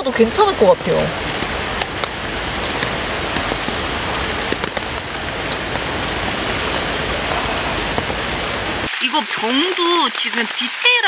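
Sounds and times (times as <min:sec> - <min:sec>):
mountain stream rushing: 0:00.0 - 0:11.0
rain falling: 0:00.0 - 0:11.0.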